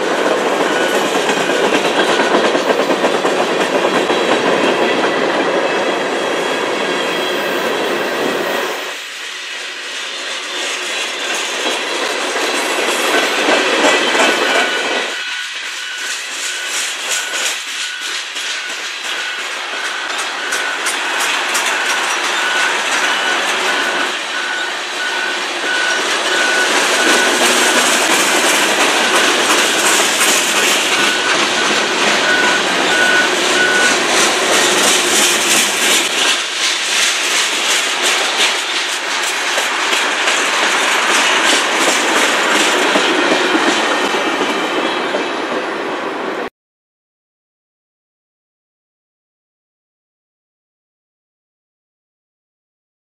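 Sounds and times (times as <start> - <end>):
train wheels clicking over rail joints: 0.0 - 9.1, 9.8 - 45.6.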